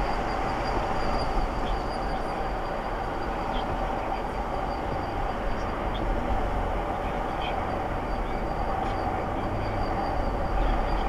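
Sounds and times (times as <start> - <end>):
engine and road drone in cabin: 0.0 - 11.0.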